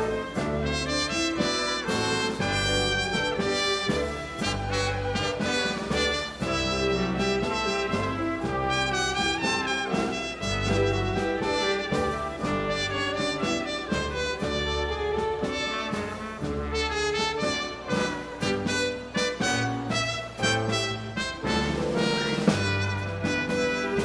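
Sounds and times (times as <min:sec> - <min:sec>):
latin dance orchestra playing: 0:00.0 - 0:24.0
trumpets and trombones melody: 0:00.0 - 0:24.0.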